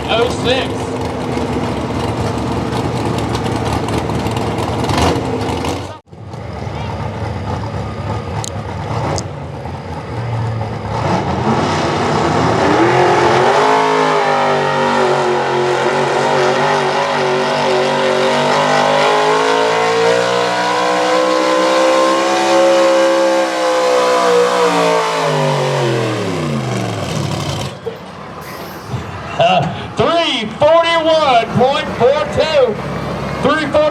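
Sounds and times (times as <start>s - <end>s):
truck engine at full throttle: 0.0s - 33.9s.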